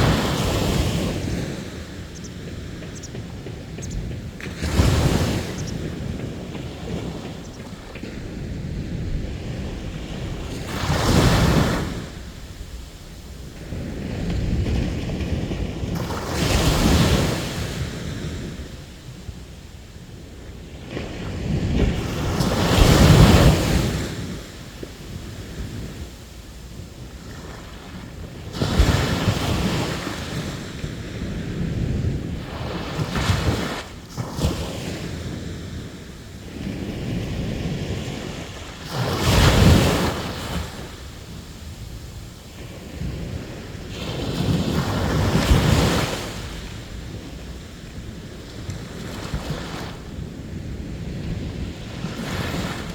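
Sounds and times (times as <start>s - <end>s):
surf washing on beach: 0.0s - 52.9s
waves crashing: 0.0s - 52.9s.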